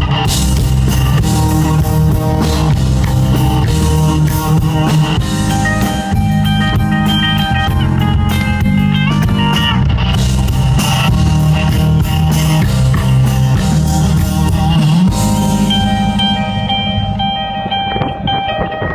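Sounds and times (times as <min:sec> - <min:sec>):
guitar chords ringing: 0:00.0 - 0:18.9
rock band playing: 0:00.0 - 0:18.9.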